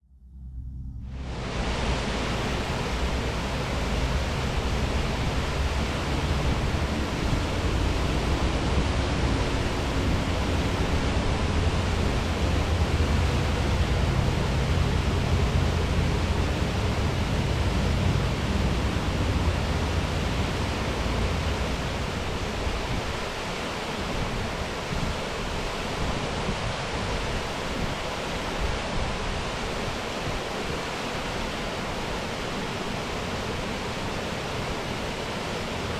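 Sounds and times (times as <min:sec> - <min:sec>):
waterfall rushing: 0:01.1 - 0:35.9.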